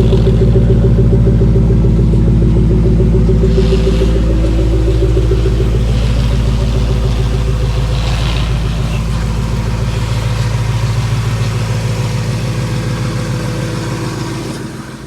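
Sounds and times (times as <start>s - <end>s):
deep engine exhaust idling: 0.0s - 15.0s.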